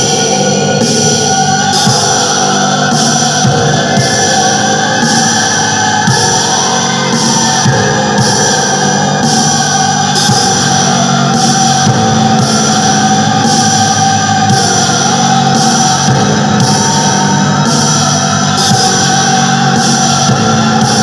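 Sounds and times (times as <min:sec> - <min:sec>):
doom metal music: 0:00.0 - 0:21.0.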